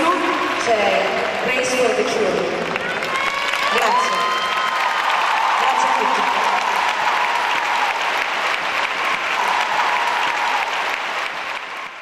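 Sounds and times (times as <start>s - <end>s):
large audience applauding: 0.2s - 12.0s.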